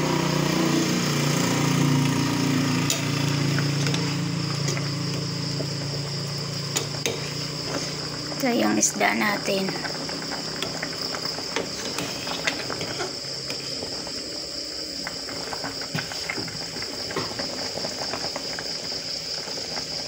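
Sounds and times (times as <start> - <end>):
broth bubbling at a boil: 0.1 - 20.0.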